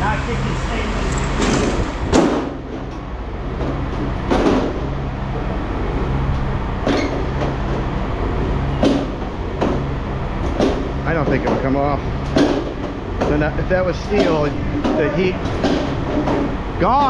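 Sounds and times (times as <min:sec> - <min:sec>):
engine idling hum: 0:00.0 - 0:17.0.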